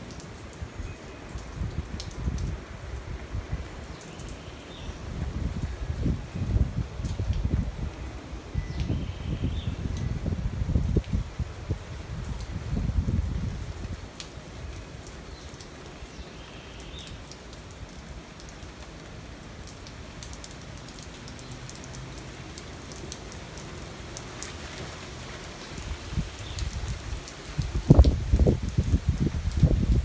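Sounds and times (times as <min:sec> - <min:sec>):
steady rain on foliage: 0:00.0 - 0:30.0.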